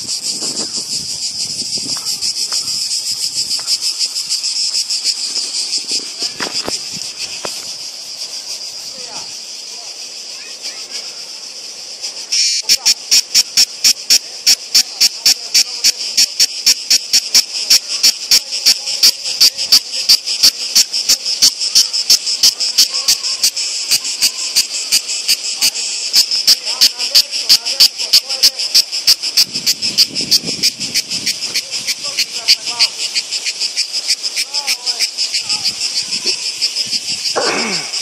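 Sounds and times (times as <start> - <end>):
cicadas singing: 0.0 - 38.0.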